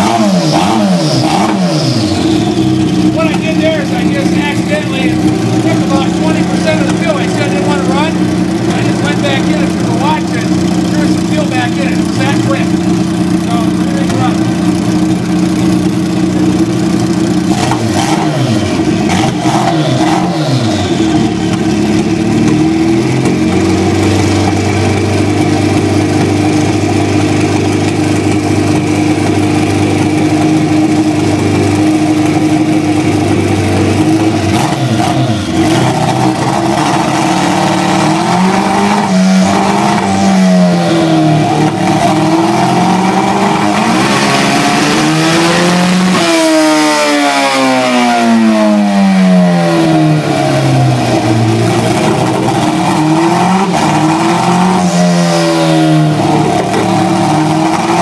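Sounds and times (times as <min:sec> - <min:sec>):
motorcycle engine revving on dyno: 0:00.0 - 0:58.0.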